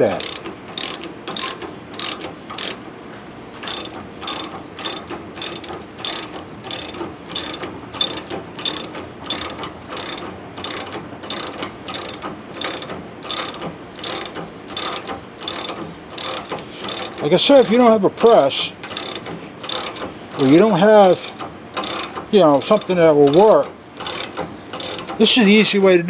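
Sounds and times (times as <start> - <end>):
ratcheting wrench clicking: 0.0 - 2.8, 3.6 - 25.7.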